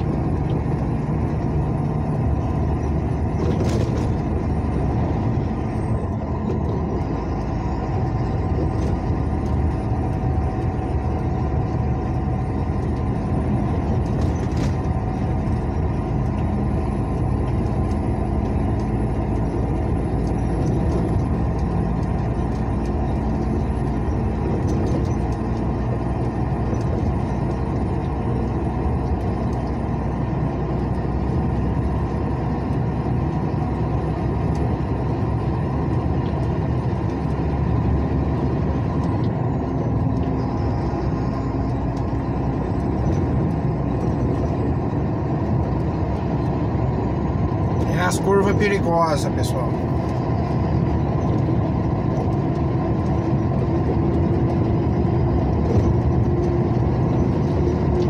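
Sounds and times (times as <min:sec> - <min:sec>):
vehicle engine and tyre noise: 0:00.0 - 0:58.0.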